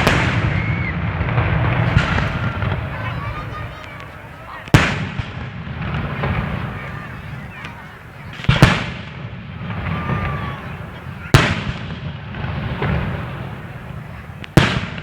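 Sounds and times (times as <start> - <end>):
distant fireworks rumble: 0.0 - 15.0
fireworks bangs: 0.0 - 15.0.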